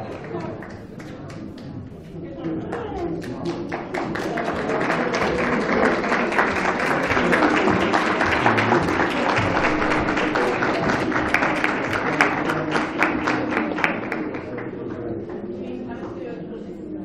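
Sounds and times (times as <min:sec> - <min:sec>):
audience applauding: 0:00.0 - 0:01.7, 0:02.5 - 0:14.7.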